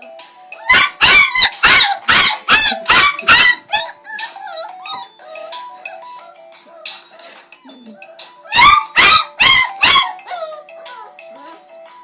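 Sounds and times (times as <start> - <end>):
alarm clock electronic tune: 0.0 - 12.0
puppy yelping: 0.6 - 7.3, 8.0 - 11.6.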